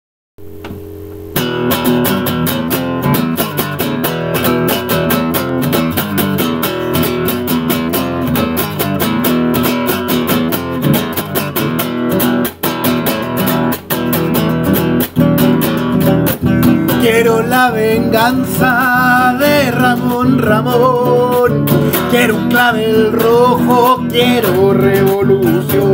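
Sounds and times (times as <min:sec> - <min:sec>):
acoustic guitar strumming: 0:00.4 - 0:25.9.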